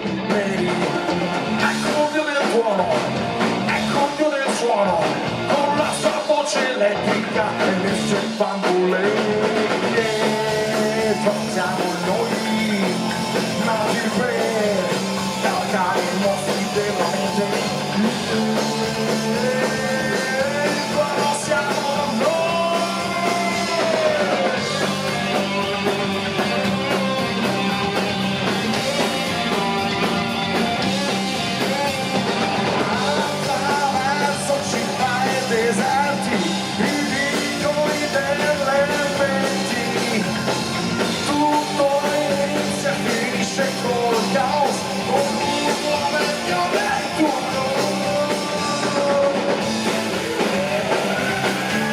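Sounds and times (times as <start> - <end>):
bass: 0.0 - 51.9
drums: 0.0 - 51.9
lead electric guitar: 0.0 - 51.9.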